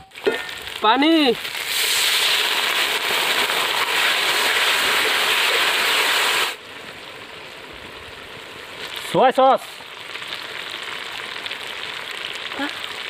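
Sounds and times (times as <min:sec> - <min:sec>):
water sizzling in hot pan: 0:00.0 - 0:13.0.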